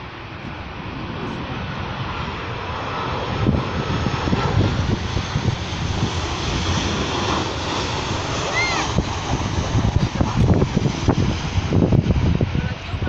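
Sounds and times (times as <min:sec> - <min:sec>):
airplane engines at take-off power: 0:00.0 - 0:13.0.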